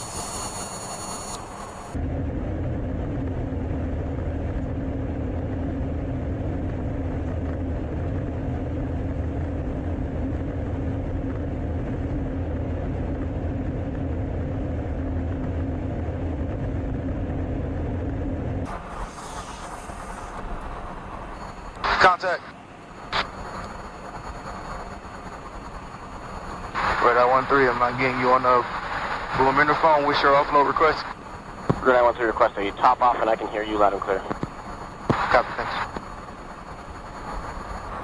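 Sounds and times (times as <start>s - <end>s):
aircraft cabin drone: 0.0s - 38.0s.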